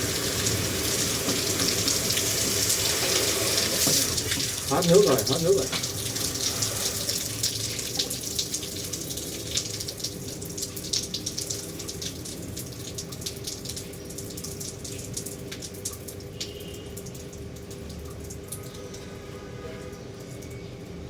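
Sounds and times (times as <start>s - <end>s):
water spattering and dripping: 0.0s - 21.0s.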